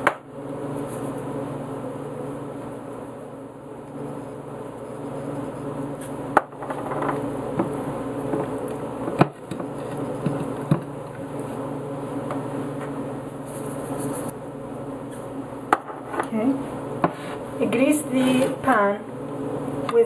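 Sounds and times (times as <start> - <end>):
low buzzing hum: 0.0 - 20.0.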